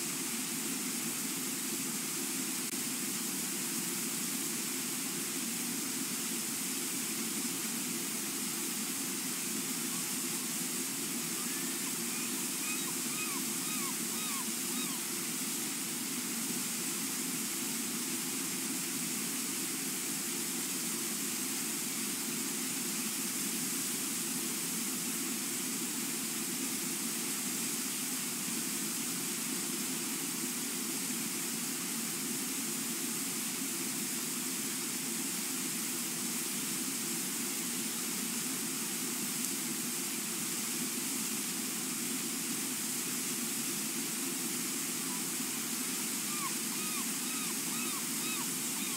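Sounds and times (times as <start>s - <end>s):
river pouring over falls: 0.0s - 48.9s.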